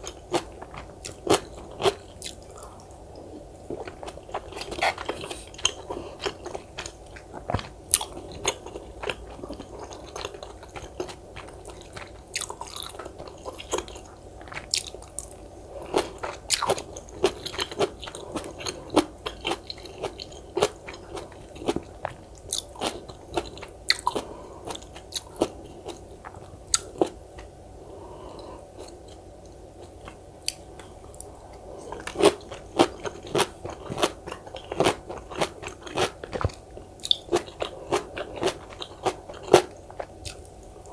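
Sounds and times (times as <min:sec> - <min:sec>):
crunchy chewing: 0:00.0 - 0:27.5, 0:28.2 - 0:40.9.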